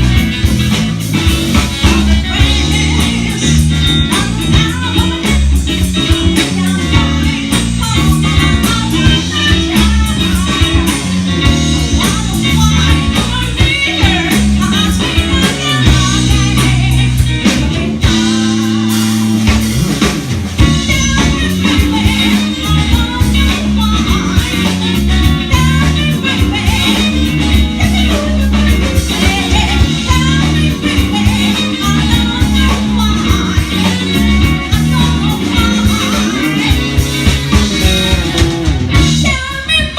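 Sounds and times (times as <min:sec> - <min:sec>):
rock band playing: 0:00.0 - 0:39.9
person singing: 0:01.5 - 0:19.6, 0:20.6 - 0:39.9.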